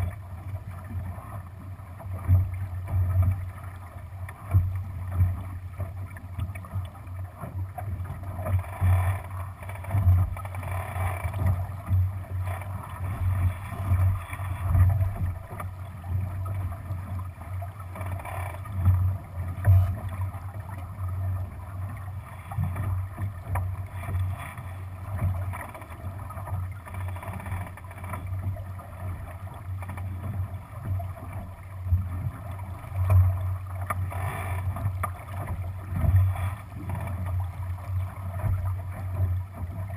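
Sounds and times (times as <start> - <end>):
water rushing along boat hull: 0.0 - 39.9.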